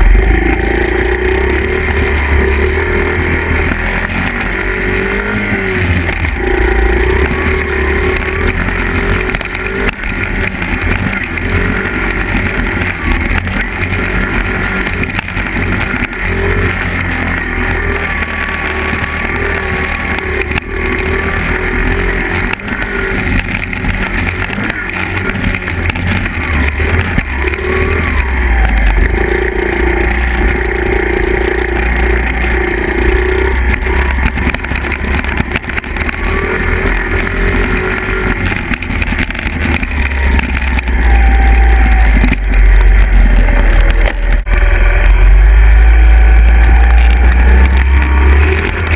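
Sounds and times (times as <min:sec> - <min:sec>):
low rumble: 0:00.0 - 0:48.9
small dirt bike engines: 0:00.0 - 0:48.9.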